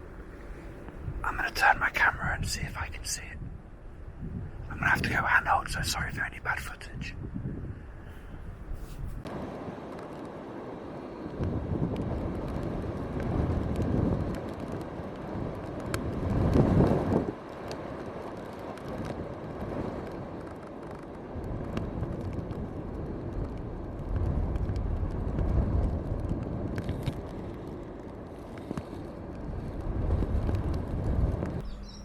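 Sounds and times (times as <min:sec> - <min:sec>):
wind buffeting microphone: 0:00.0 - 0:09.9, 0:10.6 - 0:32.0.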